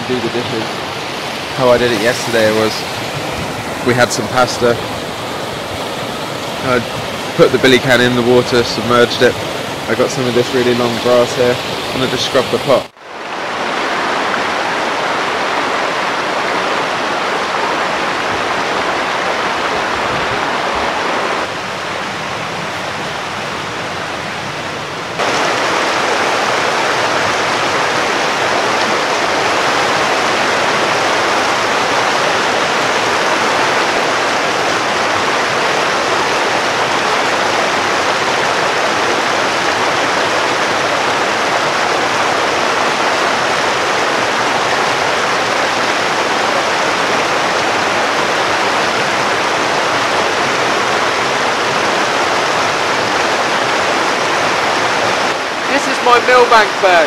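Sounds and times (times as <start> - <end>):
stream tumbling over stones: 0.0 - 22.4, 25.2 - 57.0.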